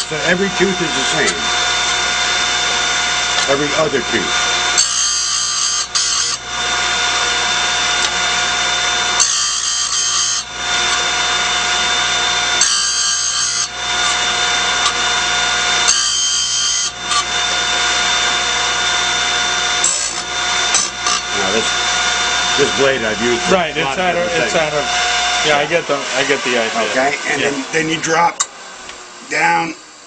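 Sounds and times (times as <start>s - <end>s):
grinder running: 0.0s - 30.0s.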